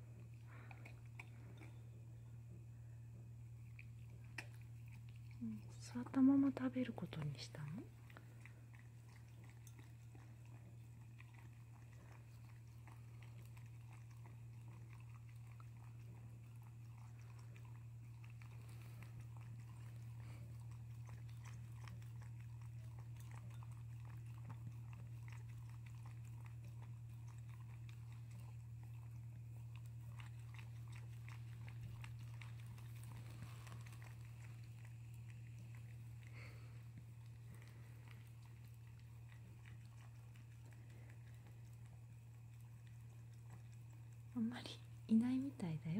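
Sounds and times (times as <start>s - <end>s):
dog chewing with small clicks: 0.0s - 45.9s
steady low hum: 0.0s - 45.9s.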